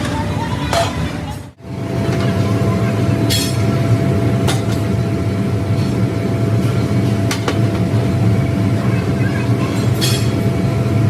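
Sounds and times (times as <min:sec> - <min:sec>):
factory machinery droning: 0:00.0 - 0:11.0
thin steady whine: 0:01.6 - 0:11.0.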